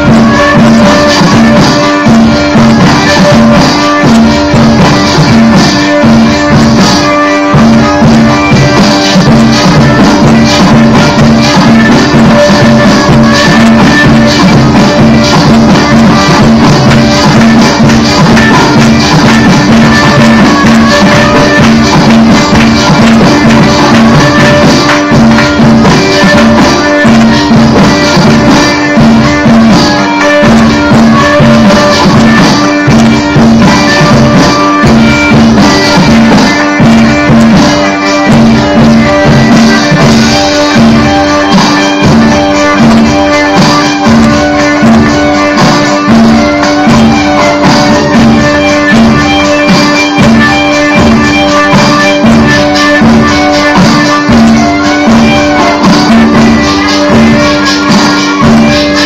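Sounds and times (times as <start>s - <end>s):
belly dance music: 0.0s - 59.0s
drum rhythm: 0.0s - 59.0s
held drone: 0.0s - 59.0s
jingling percussion: 0.0s - 59.0s.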